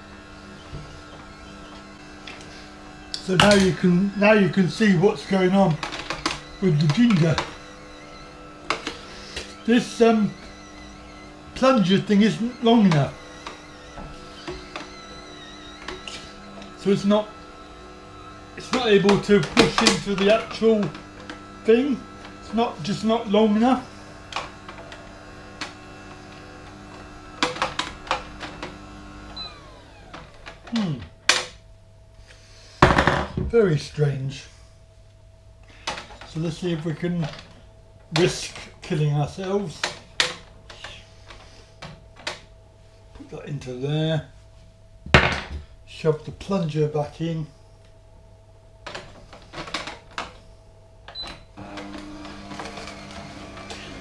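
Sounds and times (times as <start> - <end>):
juicer motor humming: 0.0 - 34.6, 35.5 - 43.8, 47.8 - 54.0.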